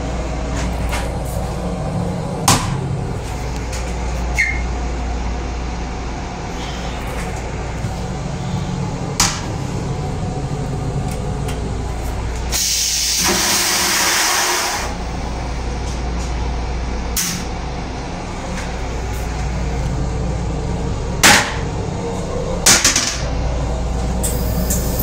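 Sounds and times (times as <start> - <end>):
railcar low rumble: 0.0 - 25.0.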